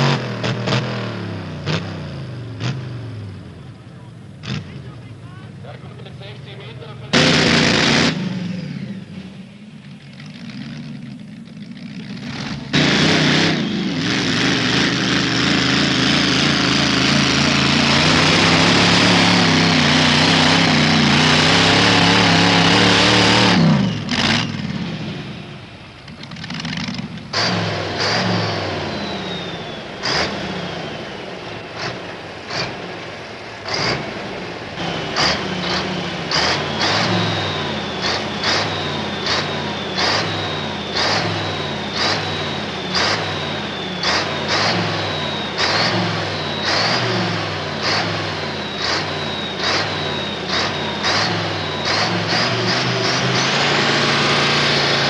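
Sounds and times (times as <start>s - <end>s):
engine short sharp revs: 0.0s - 3.4s, 4.4s - 5.0s, 5.9s - 9.6s, 11.8s - 55.0s
tractor engine at full throttle: 0.0s - 55.0s.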